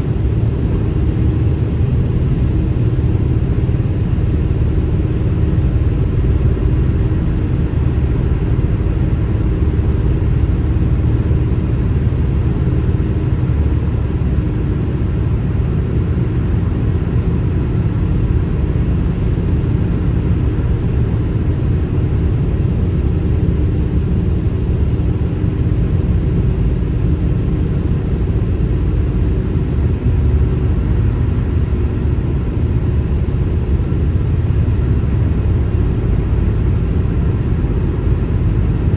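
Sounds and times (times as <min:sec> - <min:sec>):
car driving at highway speed: 0:00.0 - 0:38.9.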